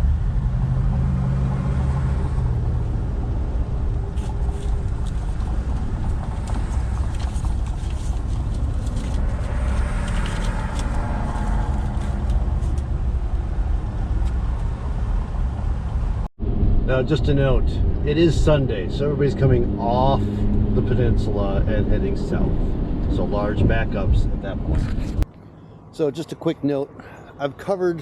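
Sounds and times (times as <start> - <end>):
car tyres and engine rumble: 0.0 - 28.0.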